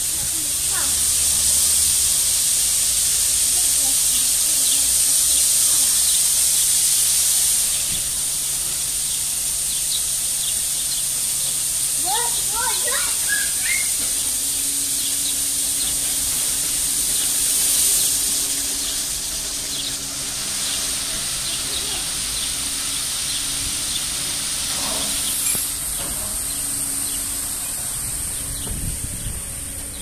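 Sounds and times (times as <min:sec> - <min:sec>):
hiss of water jets: 0:00.0 - 0:30.0
low hum of machinery: 0:00.0 - 0:30.0.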